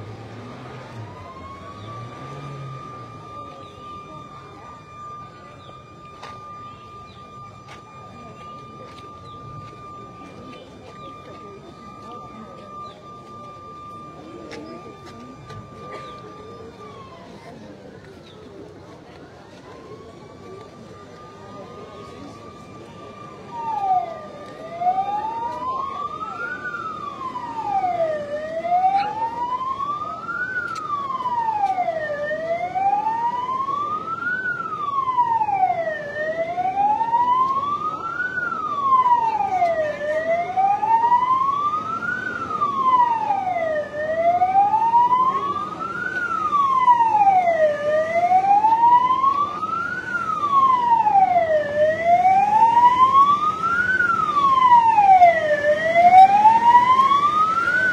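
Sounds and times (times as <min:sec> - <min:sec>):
fainter higher siren tones: 0:00.0 - 0:57.9
large crowd noise: 0:00.0 - 0:57.9
wailing siren: 0:00.0 - 0:57.9.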